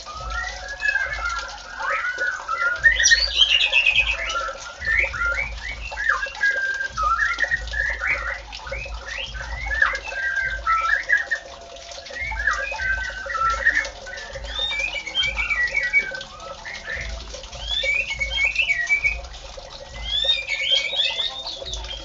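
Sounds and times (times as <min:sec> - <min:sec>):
songbird whistling and chattering: 0:00.0 - 0:22.0.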